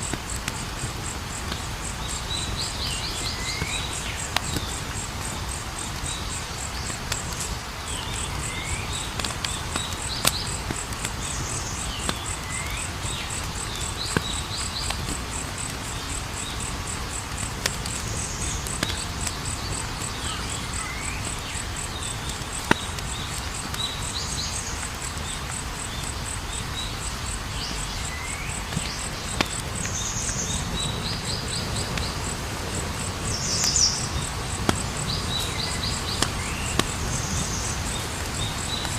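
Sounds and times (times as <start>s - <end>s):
campfire hissing: 0.0s - 38.9s
fire crackles and pops: 0.0s - 38.9s
insects trilling: 0.0s - 38.9s.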